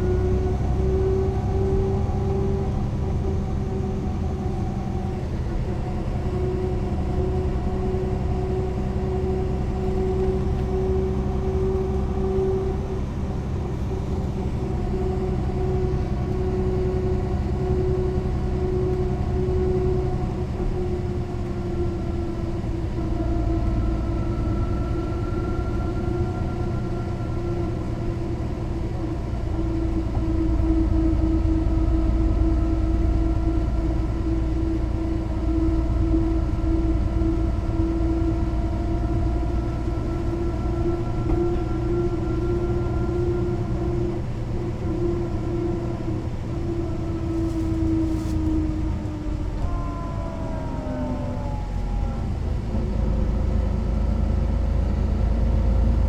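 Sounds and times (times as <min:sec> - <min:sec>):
bus engine humming with whine: 0:00.0 - 0:56.0.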